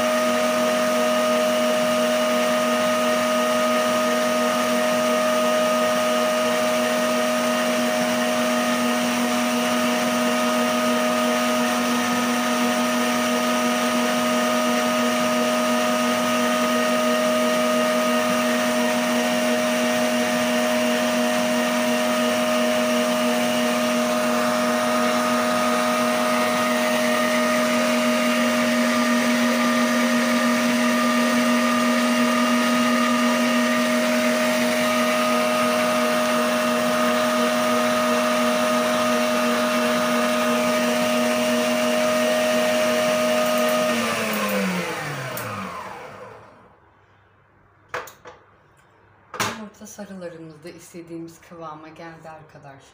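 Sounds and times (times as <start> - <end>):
stand mixer motor whining: 0.0 - 46.8.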